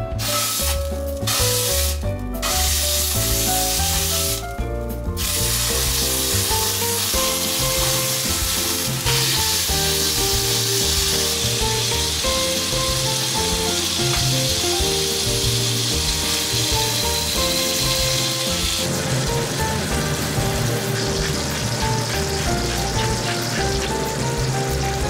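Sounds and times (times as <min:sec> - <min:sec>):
background music: 0:00.0 - 0:25.0
meat sizzling in a frying pan: 0:00.2 - 0:04.6, 0:05.2 - 0:25.0.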